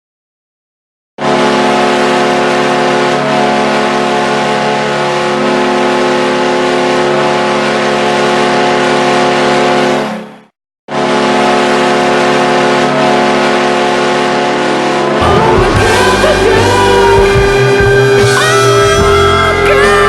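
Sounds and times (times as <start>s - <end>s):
hockey goal horn: 1.2s - 20.0s.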